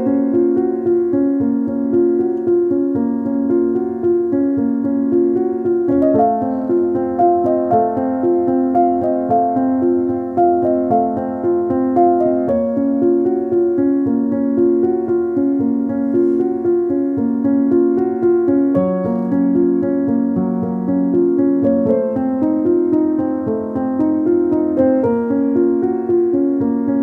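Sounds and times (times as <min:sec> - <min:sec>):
gentle piano melody: 0:00.0 - 0:27.0.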